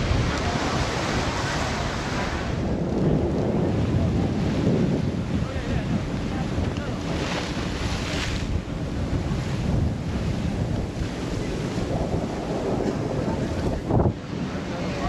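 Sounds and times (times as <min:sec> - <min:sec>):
sea water washing: 0:00.0 - 0:15.0
wind buffeting microphone: 0:00.0 - 0:15.0.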